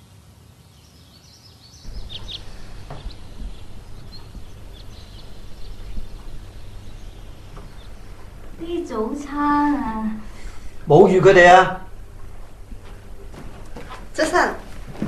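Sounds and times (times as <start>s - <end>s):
birds chirping: 1.4s - 15.0s
steady low rumble: 1.9s - 15.0s.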